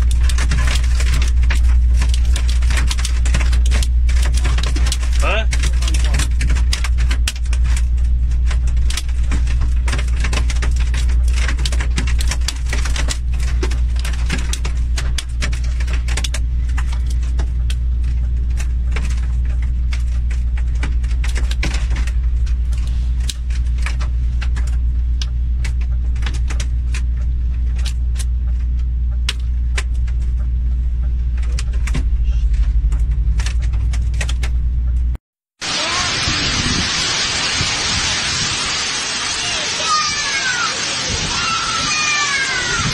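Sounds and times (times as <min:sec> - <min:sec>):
hail striking a vehicle: 0:00.0 - 0:28.3, 0:35.6 - 0:42.9.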